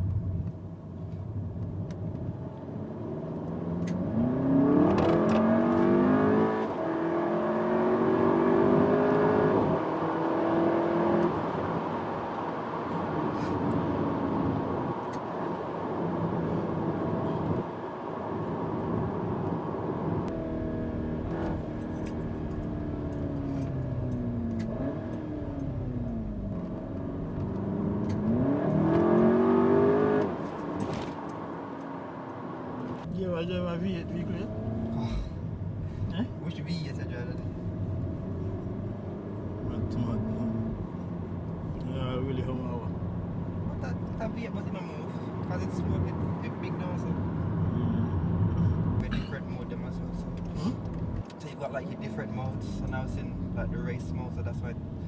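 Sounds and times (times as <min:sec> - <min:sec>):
car engine revving through gears: 0:02.8 - 0:35.8, 0:36.4 - 0:55.0.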